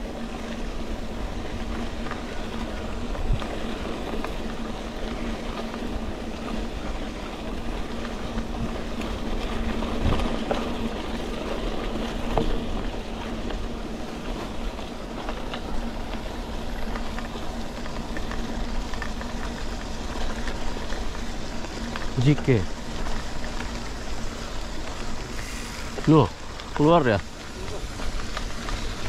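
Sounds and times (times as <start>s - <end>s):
car road noise rumble: 0.0s - 29.0s.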